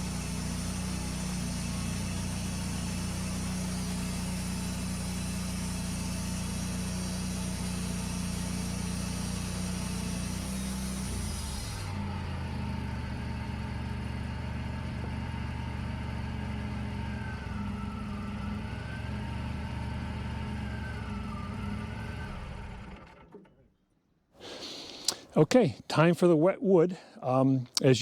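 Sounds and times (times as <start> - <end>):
sawmill engine running: 0.0 - 23.2.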